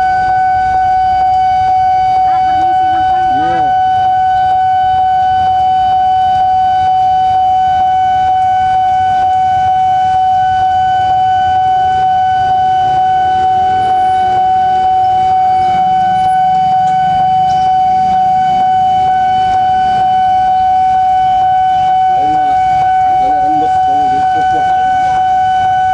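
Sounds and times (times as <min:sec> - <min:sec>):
level crossing alarm tone: 0:00.0 - 0:25.9.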